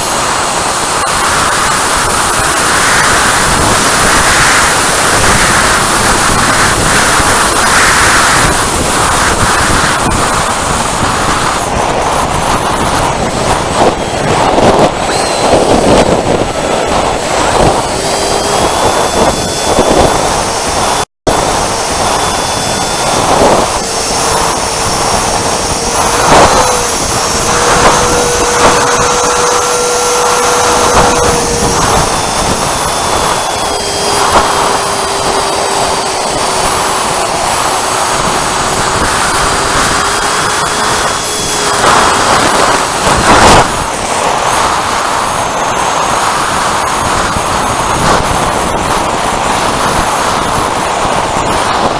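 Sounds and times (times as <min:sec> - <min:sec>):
electric ducted fan whining: 0:00.0 - 0:51.9
heavy rushing noise: 0:00.0 - 0:51.9.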